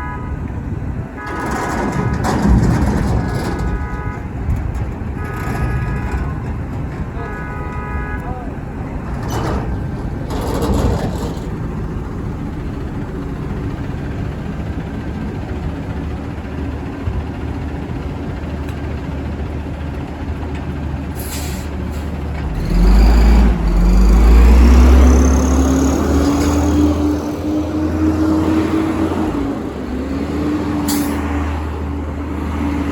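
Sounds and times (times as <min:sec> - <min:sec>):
garbage truck diesel engine: 0:00.0 - 0:32.9.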